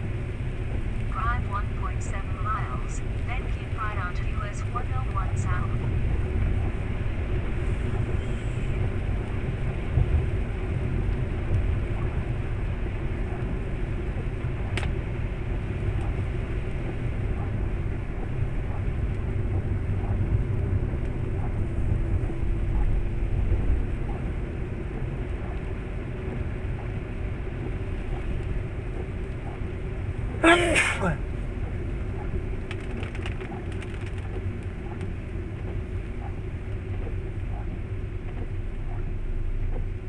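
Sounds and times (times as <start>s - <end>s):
car road noise on wet road: 0.0s - 40.0s.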